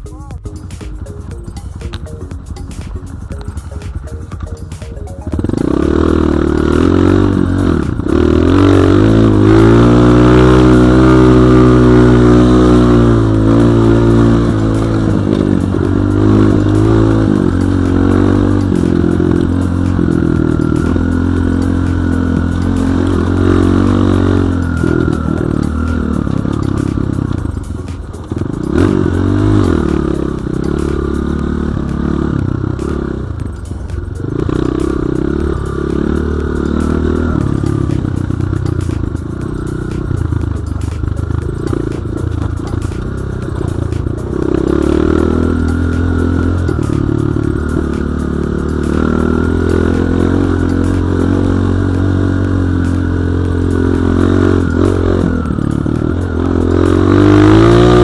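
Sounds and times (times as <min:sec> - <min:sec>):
dirt bike engine revving: 0:00.8 - 0:58.0.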